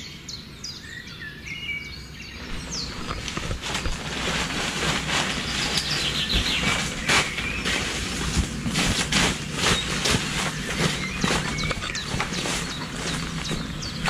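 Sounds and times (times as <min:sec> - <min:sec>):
bird wings flapping: 0:02.4 - 0:14.0.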